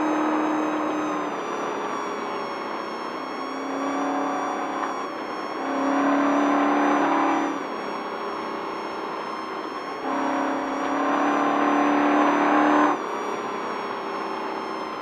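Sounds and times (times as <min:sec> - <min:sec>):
truck engine from inside cab: 0:00.0 - 0:15.0.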